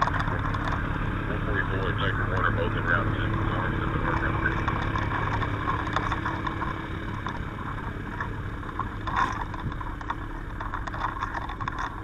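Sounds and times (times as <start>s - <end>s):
faint constant hum: 0.0s - 12.0s
vehicle engine and road rumble: 0.0s - 12.0s.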